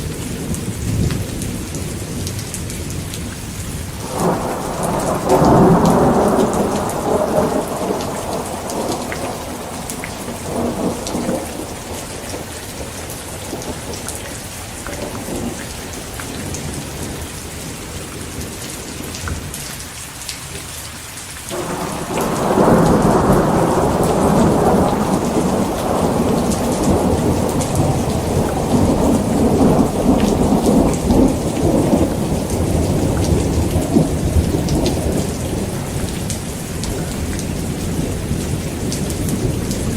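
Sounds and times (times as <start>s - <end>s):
thunder rumbling: 0.0s - 19.5s, 21.5s - 39.9s
heavy rain falling: 0.0s - 39.9s.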